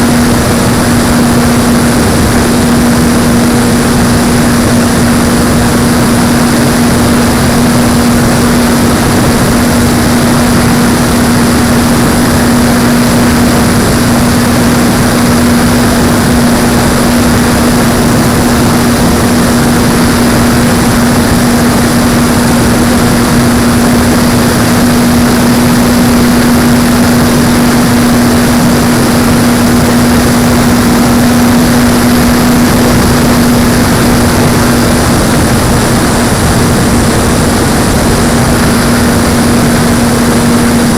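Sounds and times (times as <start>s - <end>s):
electric propeller motor whine: 0.0s - 40.9s
rushing wind noise: 0.0s - 40.9s.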